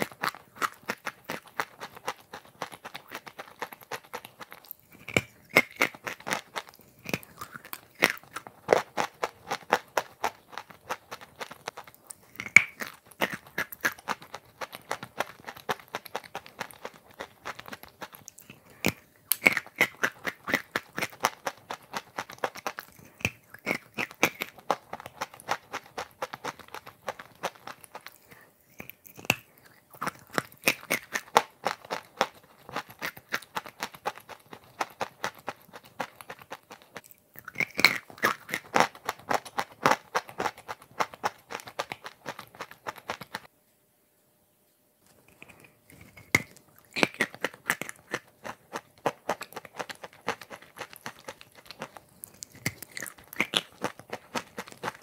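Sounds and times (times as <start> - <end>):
crisp crunching of chewing: 0.0 - 43.5, 45.1 - 55.0.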